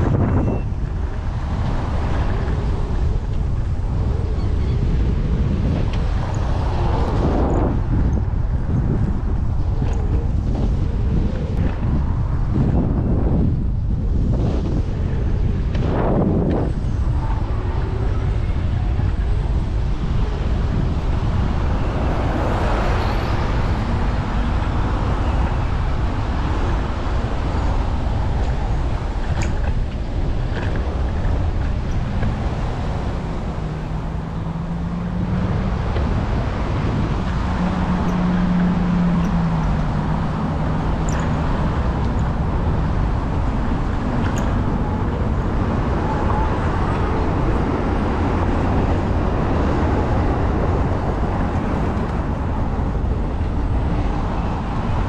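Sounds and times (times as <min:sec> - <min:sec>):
street traffic: 0:00.0 - 0:55.0
wind rumbling on microphone: 0:00.0 - 0:55.0.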